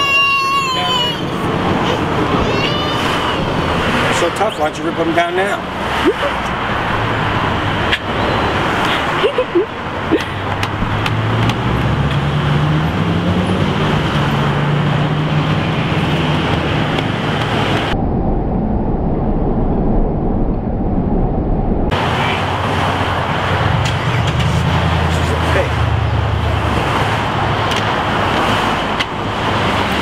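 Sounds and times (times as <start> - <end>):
cars passing: 0.0 - 18.0, 21.9 - 30.0.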